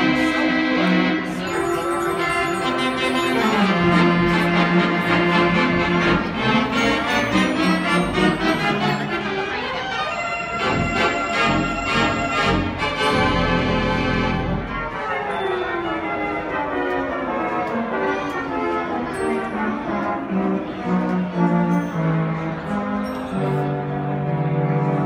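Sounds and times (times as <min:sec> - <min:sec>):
pipe organ playing chords: 0:00.0 - 0:25.0.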